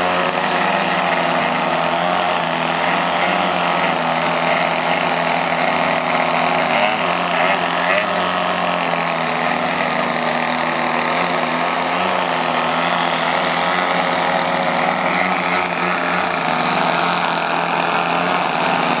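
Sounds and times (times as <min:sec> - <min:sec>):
model plane engines droning: 0:00.0 - 0:19.0.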